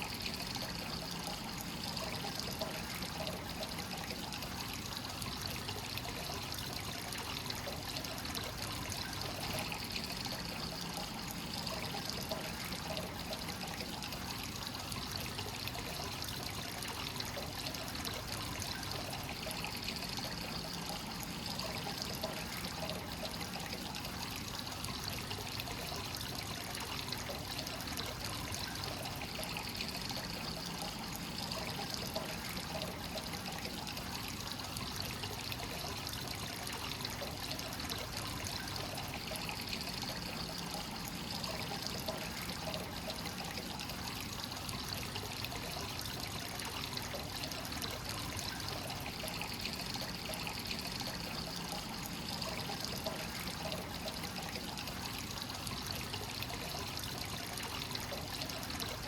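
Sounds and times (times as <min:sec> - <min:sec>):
water pouring into rock bath: 0:00.0 - 0:59.0.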